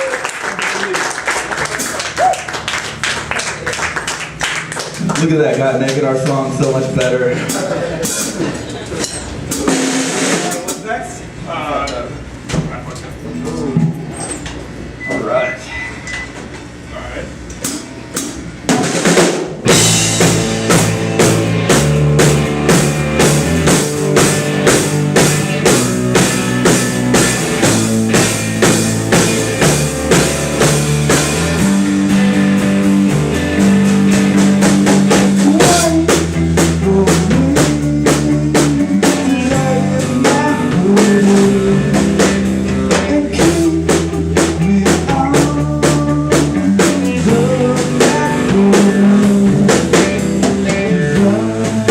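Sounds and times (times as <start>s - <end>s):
drum kit beat: 0.0s - 11.4s, 17.6s - 51.9s
live band playing: 1.2s - 11.0s, 17.6s - 51.9s.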